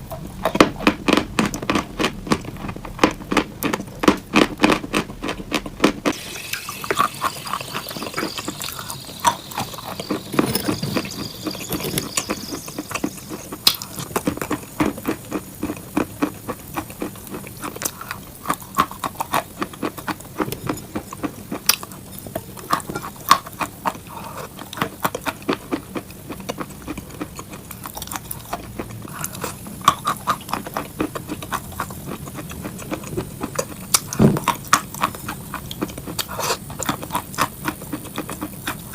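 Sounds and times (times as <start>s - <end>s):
crunchy eating crackles: 0.0s - 38.9s.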